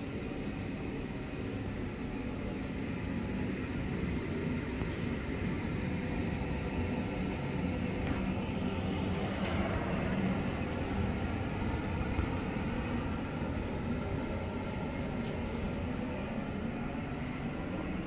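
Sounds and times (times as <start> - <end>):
low rumble of room noise: 0.0 - 18.0.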